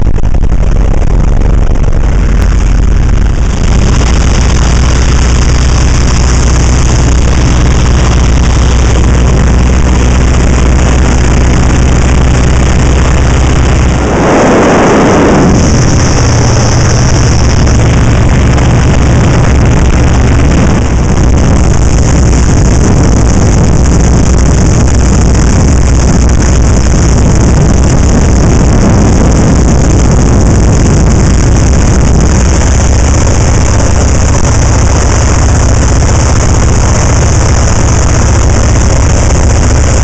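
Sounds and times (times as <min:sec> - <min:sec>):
biplane engine and propeller: 0:00.0 - 0:40.0
wind rush in open cockpit: 0:00.0 - 0:40.0.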